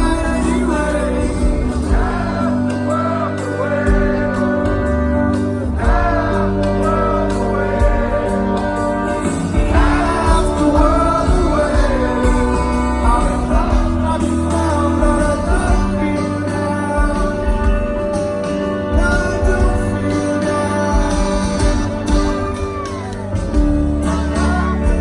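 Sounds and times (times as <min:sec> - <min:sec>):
person singing lead vocal: 0:00.0 - 0:22.6, 0:23.9 - 0:25.0
live rock band: 0:00.0 - 0:25.0.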